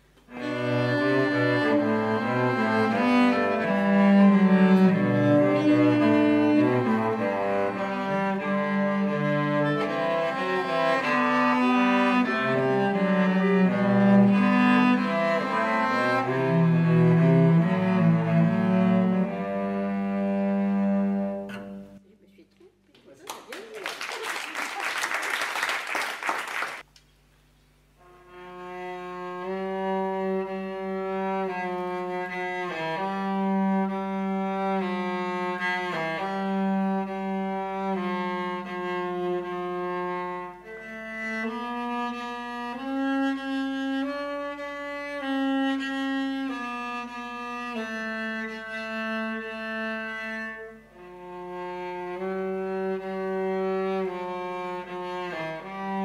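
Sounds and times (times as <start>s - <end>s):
cellos playing slow bowed notes: 0.2s - 22.0s, 28.0s - 56.0s.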